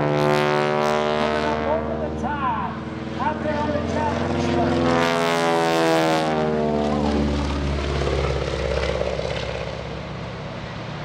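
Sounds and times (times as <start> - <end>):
propeller plane passing: 0.0 - 11.0.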